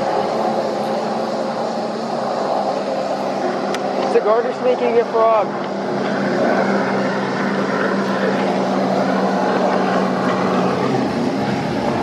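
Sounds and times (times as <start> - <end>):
engine droning: 0.0 - 12.0
low wind rumble: 0.0 - 12.0.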